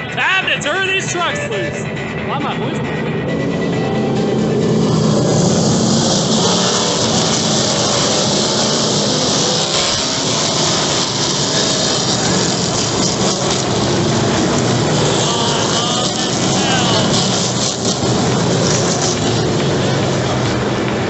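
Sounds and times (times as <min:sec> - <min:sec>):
race trucks roaring: 0:00.0 - 0:21.0.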